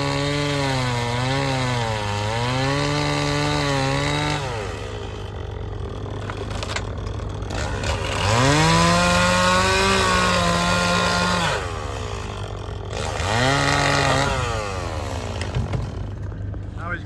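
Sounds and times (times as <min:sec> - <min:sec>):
chainsaw revving: 0:00.0 - 0:16.9.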